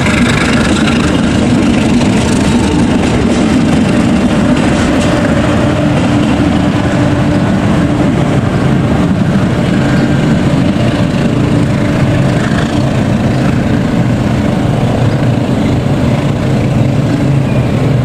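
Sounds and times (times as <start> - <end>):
passenger train rolling past: 0.0 - 18.0
train engine drone: 0.0 - 18.0.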